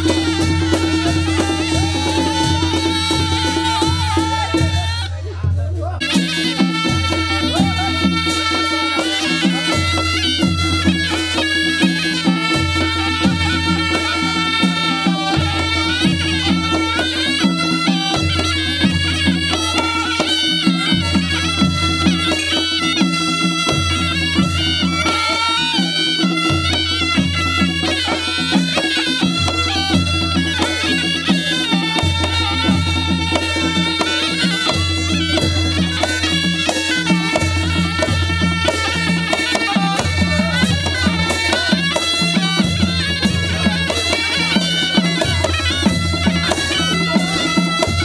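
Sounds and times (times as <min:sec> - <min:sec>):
drums beating a rhythm: 0:00.0 - 0:48.0
reedy pipes melody: 0:00.0 - 0:48.0.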